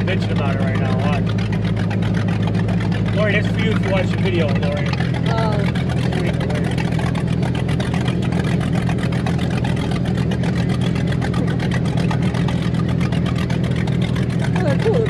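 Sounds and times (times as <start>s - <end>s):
motorboat engine droning: 0.0s - 15.0s
water rushing: 0.0s - 15.0s.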